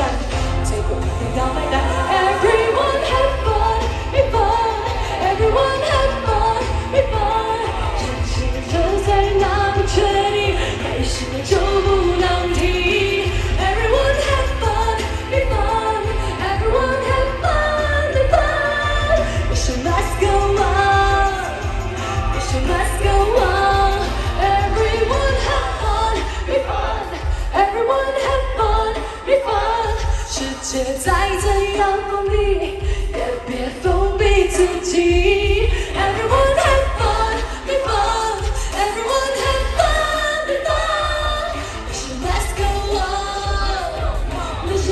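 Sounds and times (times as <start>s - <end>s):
band with heavy bass: 0.0s - 44.9s
live pop song lead vocal: 0.0s - 44.9s.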